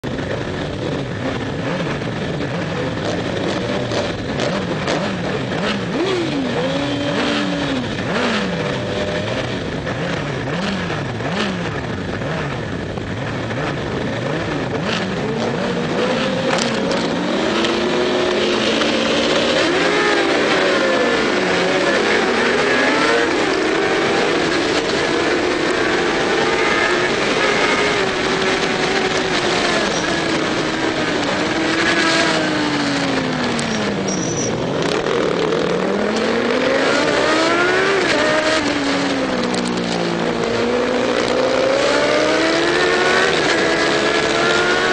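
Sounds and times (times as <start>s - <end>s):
motorcycle engines revving: 0.0s - 44.9s
motorcycles accelerating hard: 0.0s - 44.9s.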